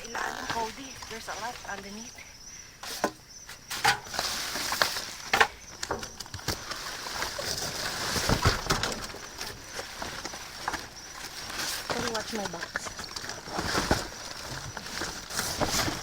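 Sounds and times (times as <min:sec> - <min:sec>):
plastic bags crinkling: 0:00.0 - 0:16.0
items knocking together: 0:02.8 - 0:16.0.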